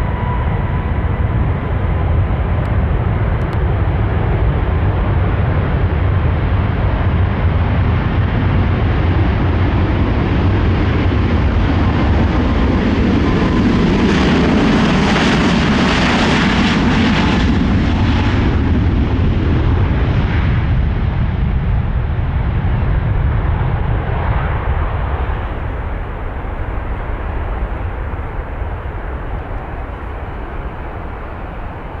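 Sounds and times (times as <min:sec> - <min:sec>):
jet airliner roar at takeoff: 0:00.0 - 0:32.0.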